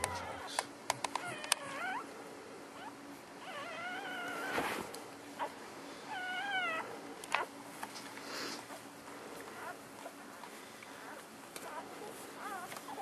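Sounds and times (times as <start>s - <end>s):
newborn puppies mewing: 0.0s - 4.7s, 5.4s - 7.6s, 8.2s - 13.0s.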